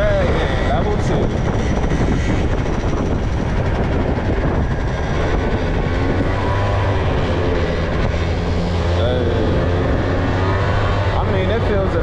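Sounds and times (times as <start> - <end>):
scooter engine running: 0.0 - 12.0
wind rushing over microphone: 0.0 - 12.0.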